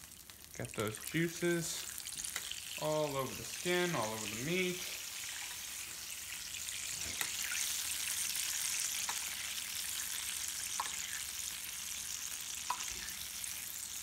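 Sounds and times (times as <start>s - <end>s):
fat sizzling: 0.0s - 14.0s.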